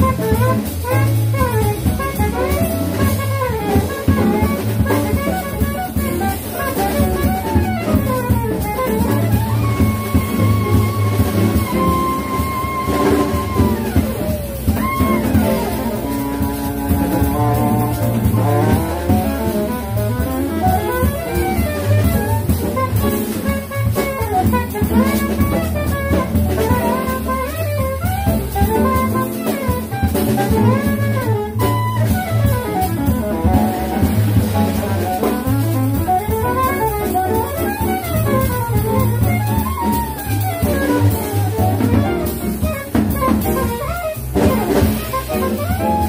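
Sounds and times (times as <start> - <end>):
double bass: 0.0 - 46.0
drum kit: 0.0 - 46.0
piano: 0.0 - 46.0
saxophone: 0.0 - 46.0.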